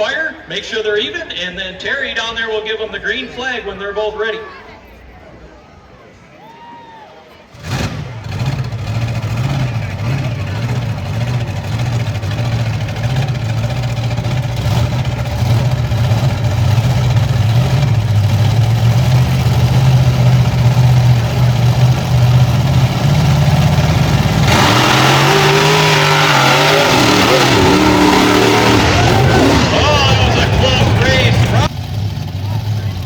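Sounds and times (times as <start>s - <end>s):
monster truck engines: 0.0s - 33.0s.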